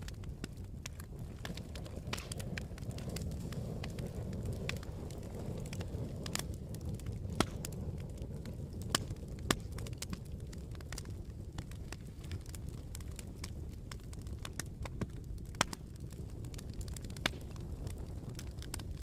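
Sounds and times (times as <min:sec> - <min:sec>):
campfire crackling: 0:00.0 - 0:19.0
sharp fire pops: 0:00.0 - 0:19.0.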